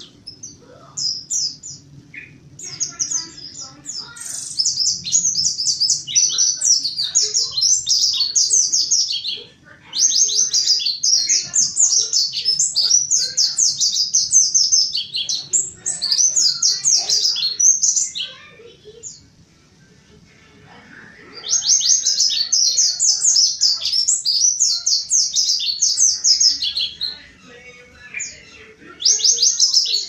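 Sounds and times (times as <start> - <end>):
bird twittering song: 0.0 - 19.4, 21.4 - 30.0.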